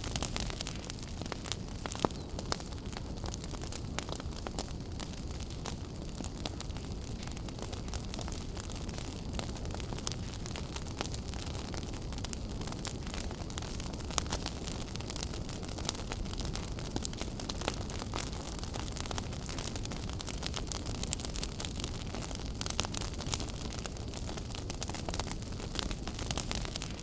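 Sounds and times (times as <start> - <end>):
low rumble of burning: 0.0 - 27.0
wood fire crackling and popping: 0.0 - 27.0.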